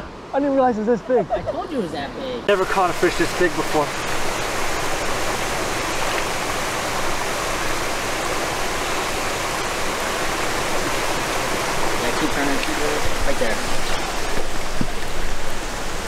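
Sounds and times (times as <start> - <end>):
river water flowing over rocks: 1.6 - 16.0.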